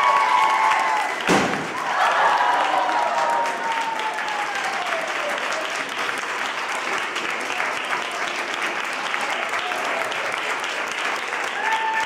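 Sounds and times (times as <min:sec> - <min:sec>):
voices cheering: 0:00.0 - 0:06.1, 0:07.3 - 0:10.6, 0:11.2 - 0:12.0
people applauding: 0:00.0 - 0:12.0.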